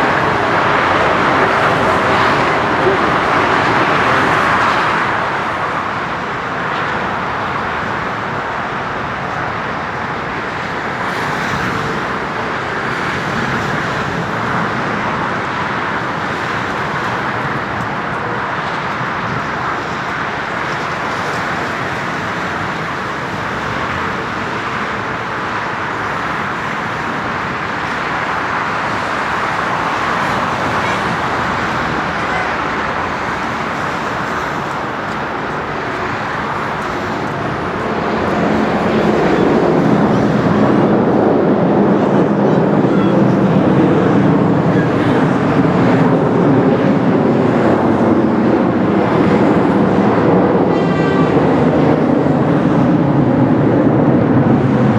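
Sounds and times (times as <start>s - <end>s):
jet engine roar: 0.0s - 54.9s.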